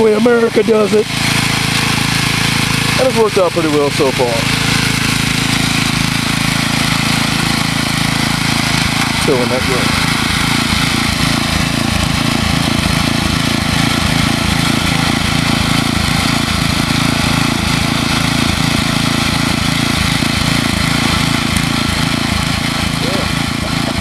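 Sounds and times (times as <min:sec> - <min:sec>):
garden tiller engine running: 0:00.0 - 0:24.0.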